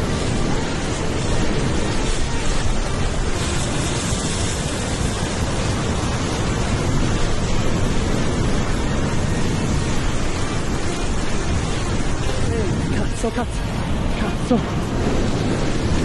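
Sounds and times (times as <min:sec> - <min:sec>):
surf breaking on rocks: 0:00.0 - 0:16.0
wind buffeting microphone: 0:00.0 - 0:16.0.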